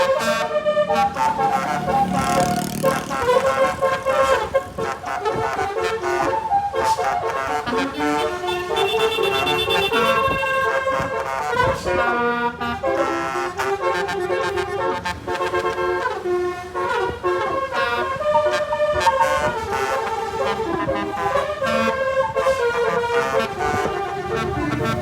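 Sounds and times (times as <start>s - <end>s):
bus multi-tone horn playing a tune: 0.0s - 25.0s.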